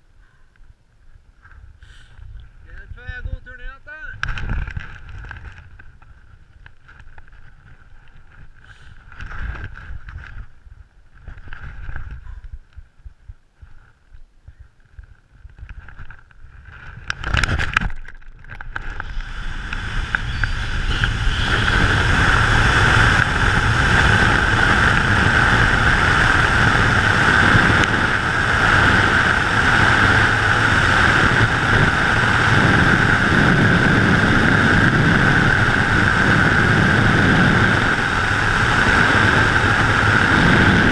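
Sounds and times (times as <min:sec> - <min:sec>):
wind rushing on camera: 0:00.0 - 0:40.9.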